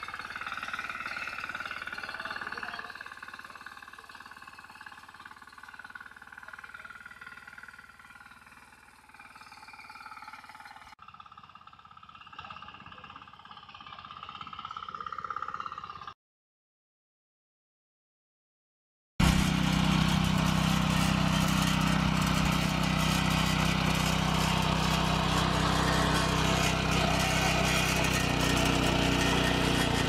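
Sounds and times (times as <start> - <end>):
power weeder engine running: 0.0 - 16.2, 19.2 - 30.0.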